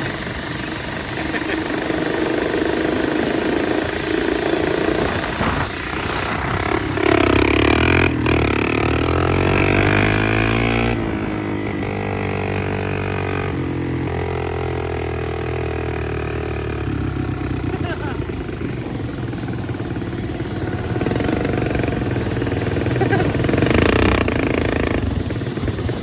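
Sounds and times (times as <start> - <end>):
machinery engine droning: 0.0 - 26.0.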